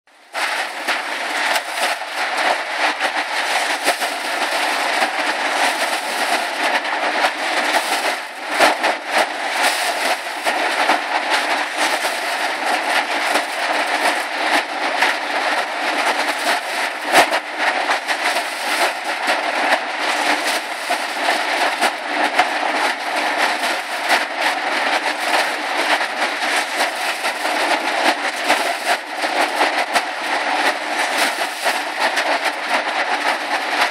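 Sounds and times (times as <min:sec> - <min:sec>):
corn clattering down metal chute: 0:00.3 - 0:33.9.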